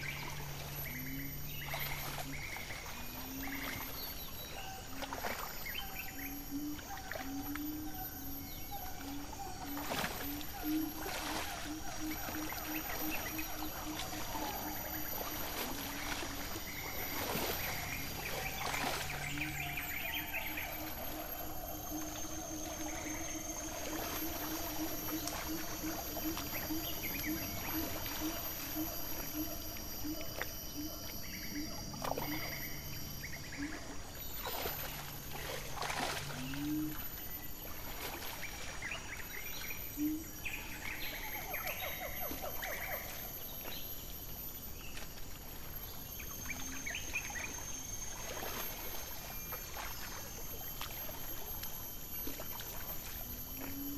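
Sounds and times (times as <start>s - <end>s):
low repeated animal call: 0.0s - 38.2s, 39.2s - 44.4s
high insect drone: 0.0s - 53.9s.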